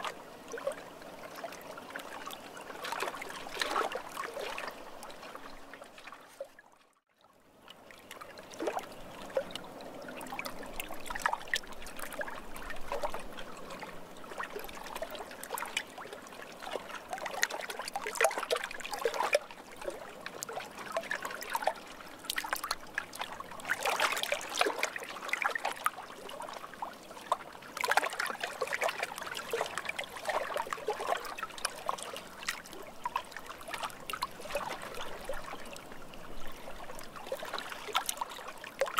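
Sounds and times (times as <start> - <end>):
water trickling and dripping: 0.0 - 6.9, 7.5 - 38.9.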